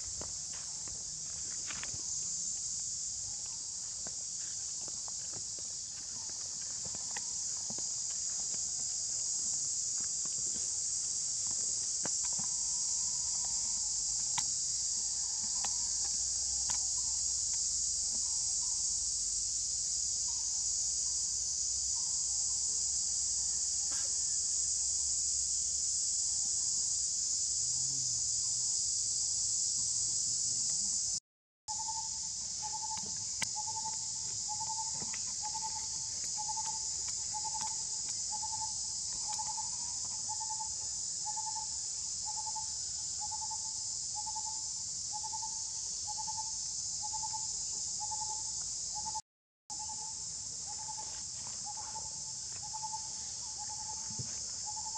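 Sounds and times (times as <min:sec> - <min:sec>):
forest insects droning: 0:00.0 - 0:54.9.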